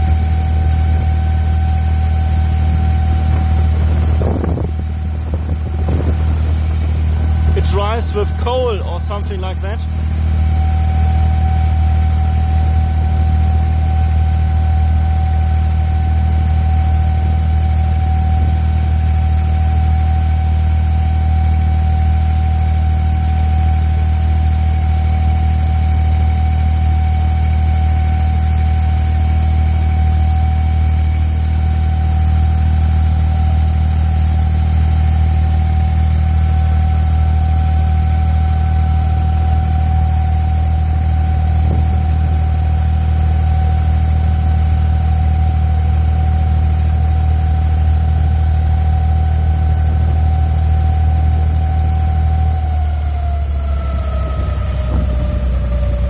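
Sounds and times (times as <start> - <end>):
boat engine humming: 0.0 - 56.0
thin steady whine: 0.0 - 56.0.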